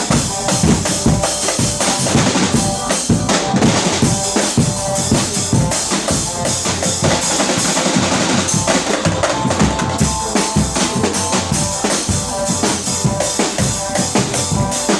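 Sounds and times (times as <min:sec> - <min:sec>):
drums beating fast rhythm: 0:00.0 - 0:14.9
held melodic line: 0:00.0 - 0:14.9.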